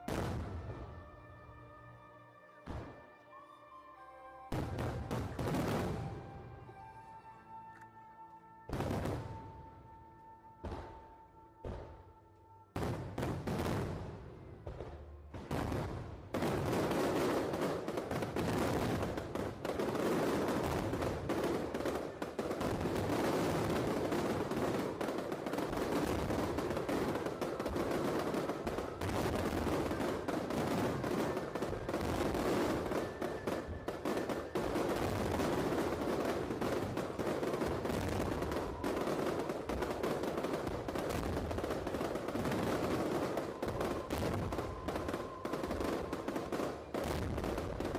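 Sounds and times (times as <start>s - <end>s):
fireworks barrage: 0.0s - 1.1s, 4.5s - 6.8s, 12.8s - 47.9s.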